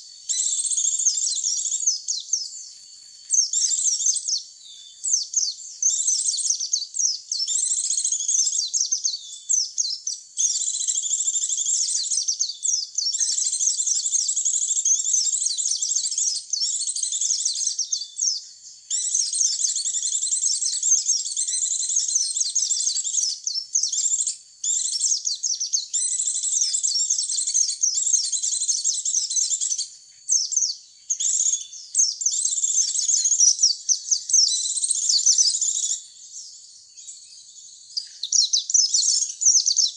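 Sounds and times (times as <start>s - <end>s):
birds twittering high chirps: 0.0s - 39.9s.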